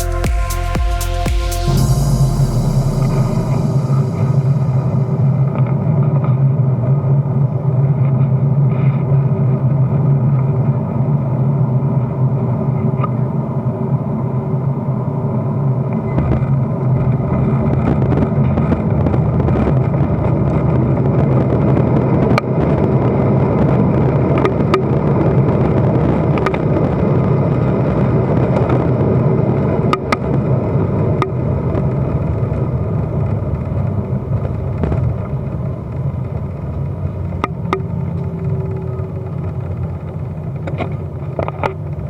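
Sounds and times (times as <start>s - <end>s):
vehicle rumble: 0.0s - 42.0s.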